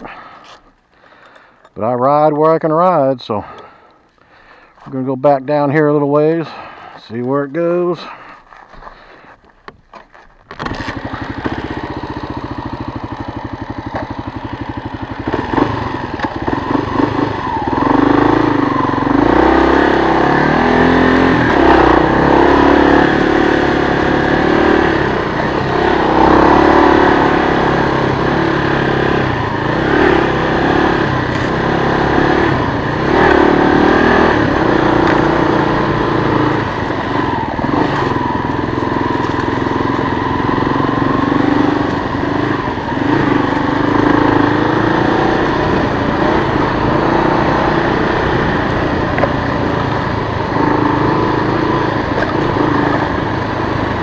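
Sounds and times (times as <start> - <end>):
motorcycle engine revving: 10.5 - 54.0.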